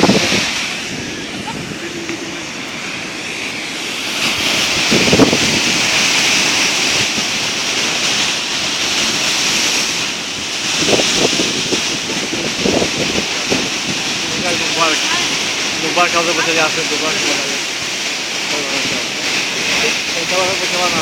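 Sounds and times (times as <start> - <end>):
ocean surf breaking: 0.0 - 21.0
wind gusting on microphone: 0.0 - 21.0.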